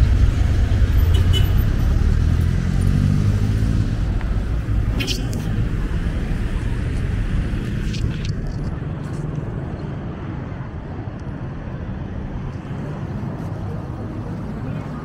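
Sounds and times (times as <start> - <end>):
vehicle low rumble: 0.0 - 15.0.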